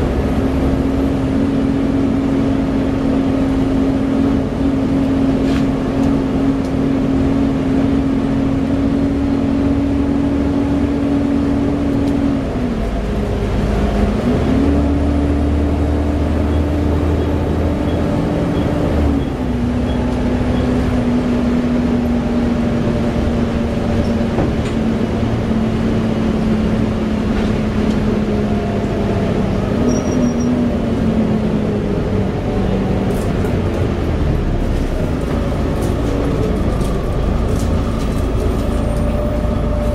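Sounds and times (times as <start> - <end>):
bus engine and gearbox running: 0.0 - 39.9
road rumble: 0.0 - 39.9.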